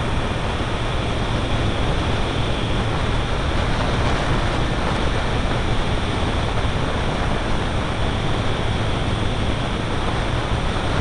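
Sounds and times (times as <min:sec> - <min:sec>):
engine drone: 0:00.0 - 0:11.0
rushing air: 0:00.0 - 0:11.0.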